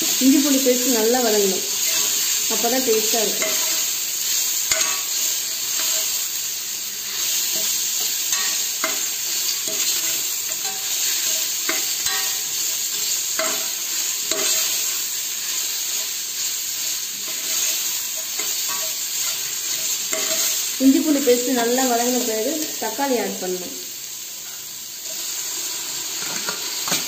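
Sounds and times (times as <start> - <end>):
onions sizzling in hot oil: 0.0 - 27.0.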